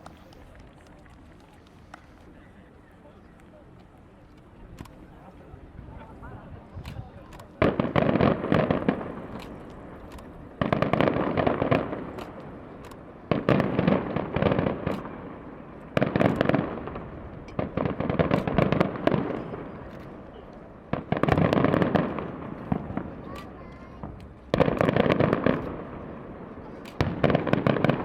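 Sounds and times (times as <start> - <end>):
fireworks bursting with crackling: 0.0 - 2.4, 6.0 - 28.0.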